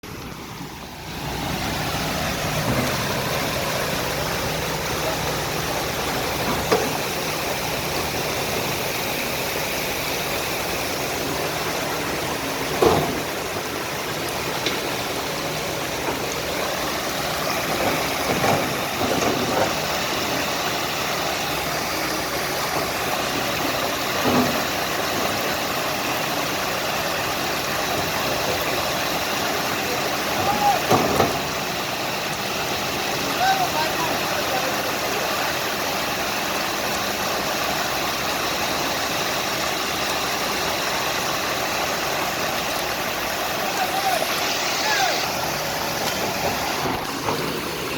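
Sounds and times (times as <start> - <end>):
rainwater flowing across road: 0.0 - 47.9
vehicle engines running: 0.0 - 47.9.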